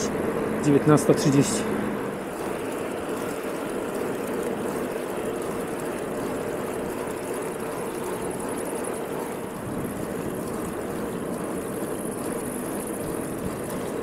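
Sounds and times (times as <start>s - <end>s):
bicycle rolling on asphalt: 0.0s - 14.0s.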